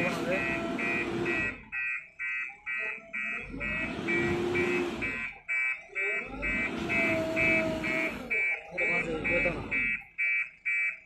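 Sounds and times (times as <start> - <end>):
diesel engine revving: 0.0 - 1.9, 3.0 - 10.0
reversing alarm beeping: 0.0 - 11.0.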